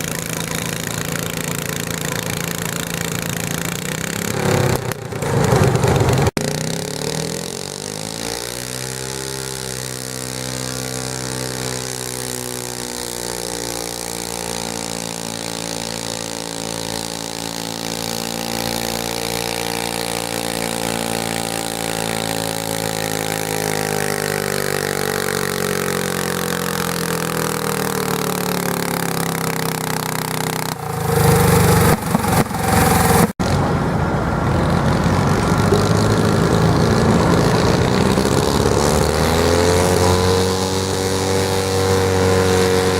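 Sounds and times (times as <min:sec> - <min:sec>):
loud rough engine noise: 0:00.0 - 0:42.9
tractor engine under load: 0:00.0 - 0:42.9.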